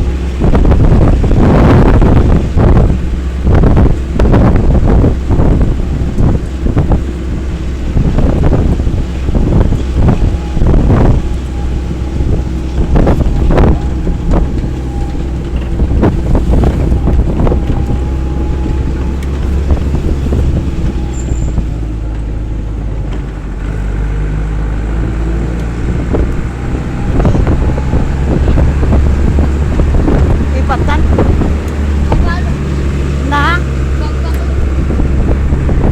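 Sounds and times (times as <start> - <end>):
vehicle rumbling over rough road: 0.0 - 35.9
wind buffeting microphone: 0.0 - 35.9.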